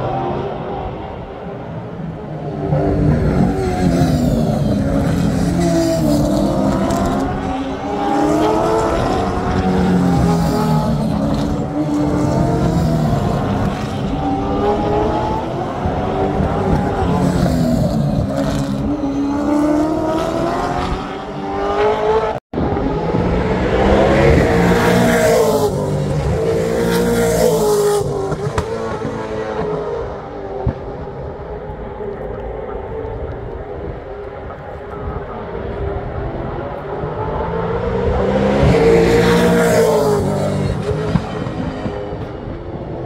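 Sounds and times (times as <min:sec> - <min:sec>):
race cars passing: 0:00.0 - 0:43.0.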